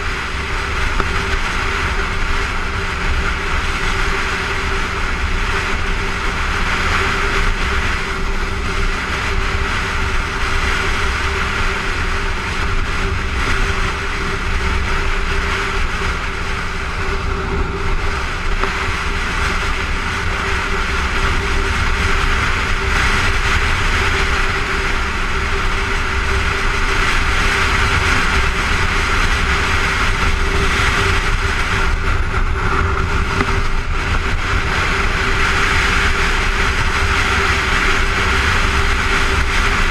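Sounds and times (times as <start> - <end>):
motorcycle engine hum: 0.0 - 39.9
wind rushing over microphone: 0.0 - 39.9.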